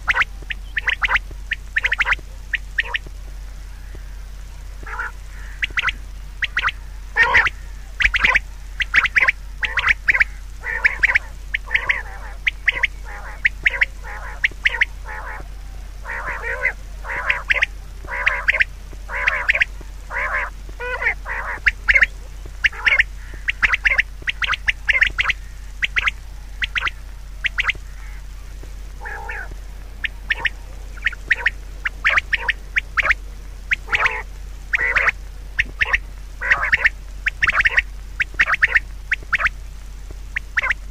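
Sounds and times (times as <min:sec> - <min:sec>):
harsh animal calls: 0:00.0 - 0:39.6, 0:40.3 - 0:40.9
steady low hum: 0:00.0 - 0:40.9.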